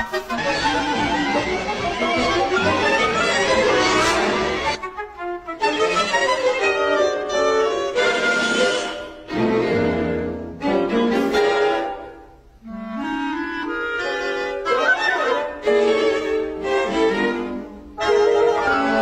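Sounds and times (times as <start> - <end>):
orchestral strings music: 0.0 - 19.0.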